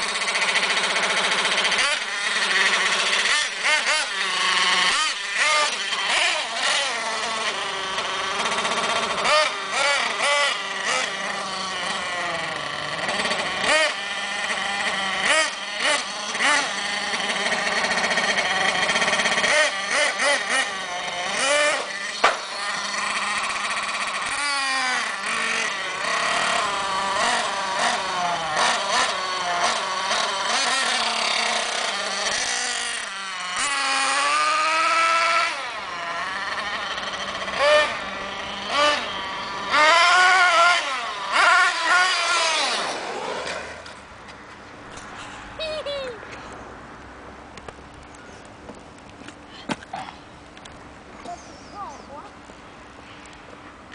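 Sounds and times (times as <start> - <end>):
rc truck engine whining: 0.0 - 46.6.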